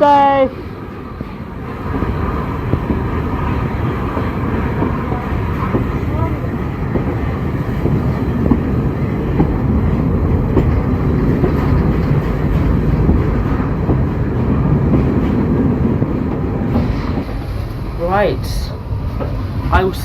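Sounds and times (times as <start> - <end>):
train wheels rumbling on rail: 0.0 - 20.0
wheel clicks on rail: 1.2 - 17.8.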